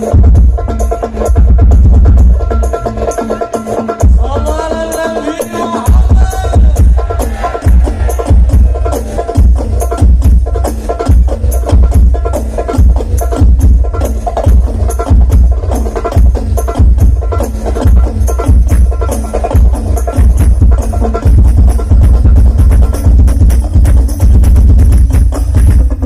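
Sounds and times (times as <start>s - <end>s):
loud music with booming bass: 0.0s - 26.0s.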